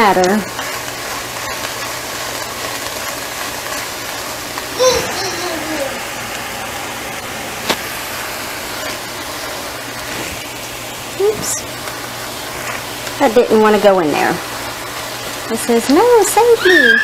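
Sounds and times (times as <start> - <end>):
spinach sizzling in a skillet: 0.0 - 17.0.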